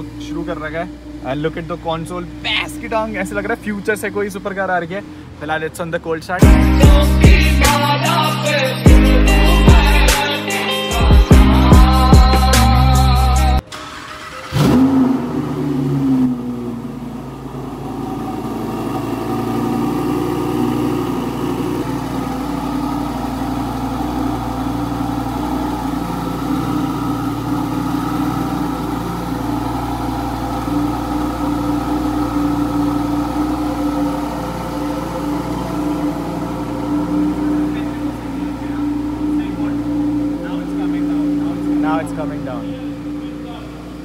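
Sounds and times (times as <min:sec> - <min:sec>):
car engine revving and idling: 0:00.0 - 0:10.4, 0:11.0 - 0:44.0.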